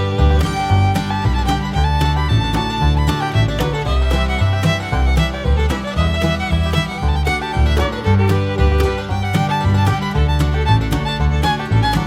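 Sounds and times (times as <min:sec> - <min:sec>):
bass line: 0:00.0 - 0:12.0
fiddle melody: 0:00.0 - 0:12.0.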